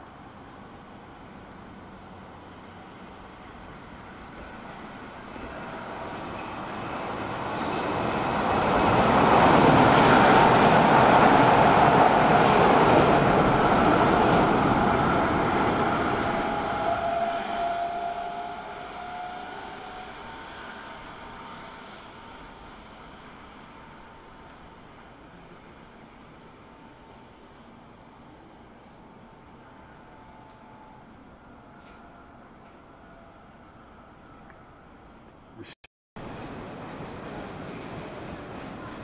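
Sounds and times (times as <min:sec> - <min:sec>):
electric train passing by: 0:00.0 - 0:35.5, 0:36.2 - 0:39.0.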